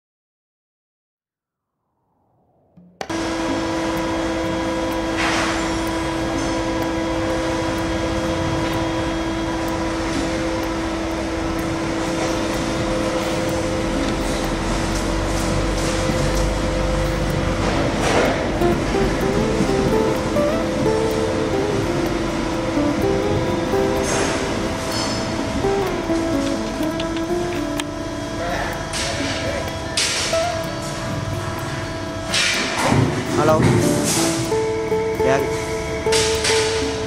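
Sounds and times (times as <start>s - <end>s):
machinery motor hum and whine: 3.0s - 37.0s.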